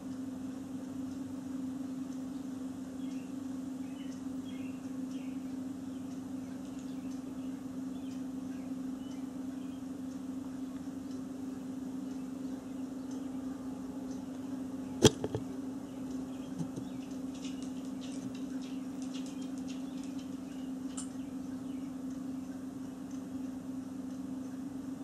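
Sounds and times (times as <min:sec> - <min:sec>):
steady low hum: 0:00.0 - 0:25.0
faint bird chirps: 0:01.8 - 0:15.0, 0:15.7 - 0:23.6.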